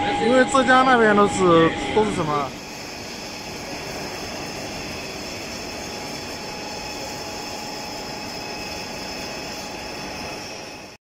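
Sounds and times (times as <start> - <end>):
machinery drone: 0.0 - 11.0
thin whining tones: 0.0 - 11.0.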